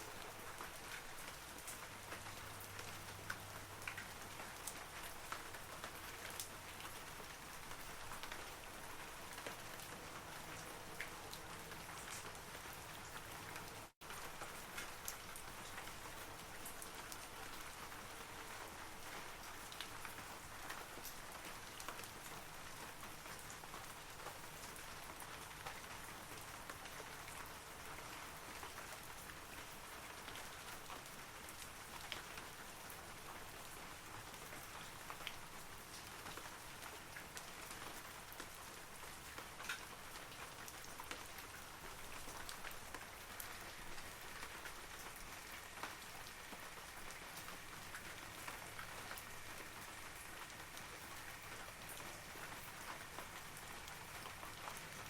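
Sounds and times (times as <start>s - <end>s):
rain falling on trees: 0.0s - 55.0s.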